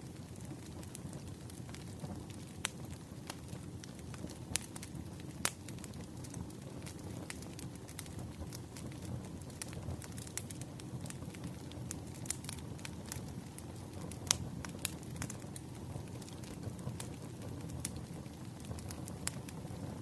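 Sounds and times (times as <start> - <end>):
low rumble of flames: 0.0 - 20.0
firewood crackling pops: 0.2 - 19.8.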